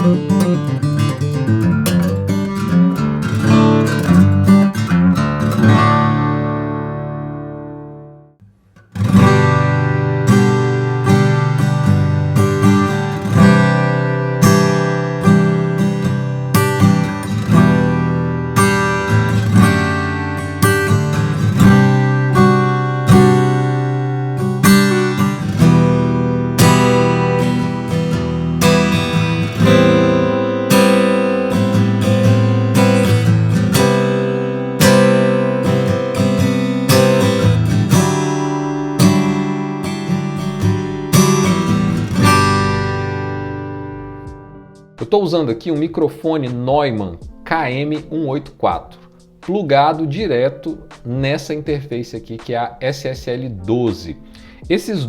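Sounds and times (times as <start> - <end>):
fingerstyle acoustic guitar: 0.0 - 55.0.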